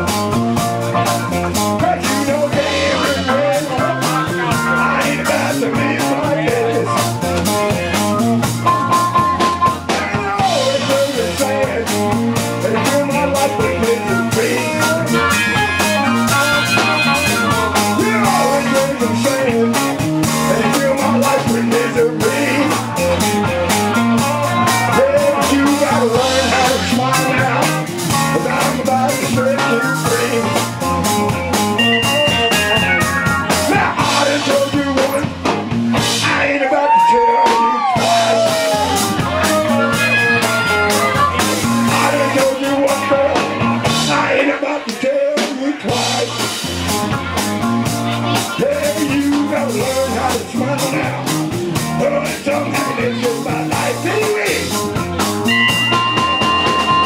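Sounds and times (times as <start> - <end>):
electric blues band playing: 0.0 - 57.0.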